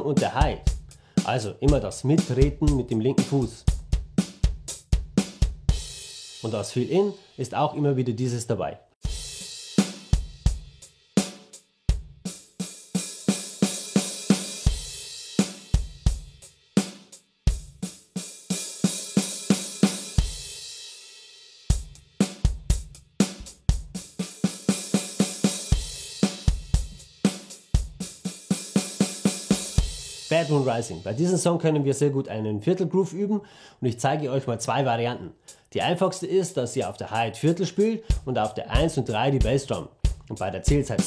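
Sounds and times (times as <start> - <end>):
rock drum groove: 0.0 - 7.7, 9.0 - 31.5, 35.4 - 41.0.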